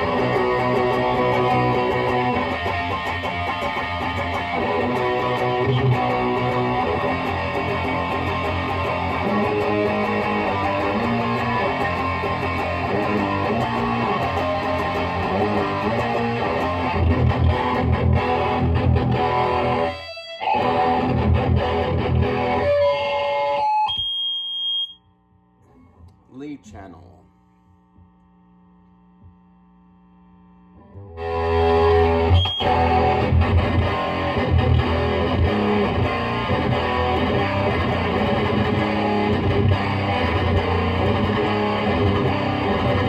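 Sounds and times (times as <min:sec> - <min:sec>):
distorted electric guitar riffing: 0:00.0 - 0:24.0, 0:30.8 - 0:43.0
amp hum: 0:00.0 - 0:43.0.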